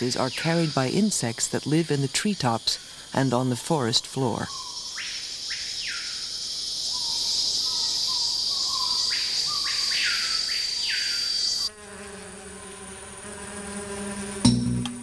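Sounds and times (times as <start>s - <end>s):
high-pitched insect trill: 0.0s - 15.0s
insect chirping calls: 0.0s - 15.0s.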